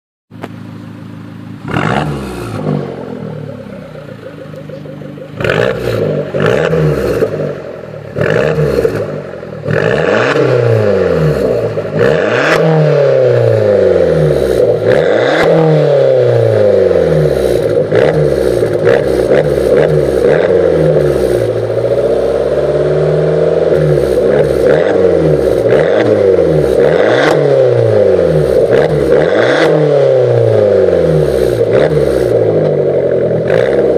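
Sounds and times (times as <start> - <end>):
exhaust cracks: 0.3 - 33.9
car engine revving: 0.4 - 33.9.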